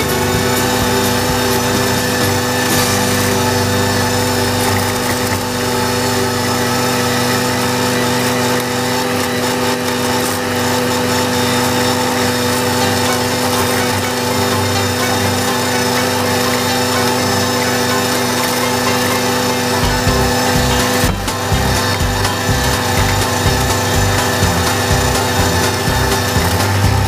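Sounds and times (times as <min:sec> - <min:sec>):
flail mower cutting grass: 0:00.0 - 0:27.0
tractor diesel engine running: 0:00.0 - 0:27.0.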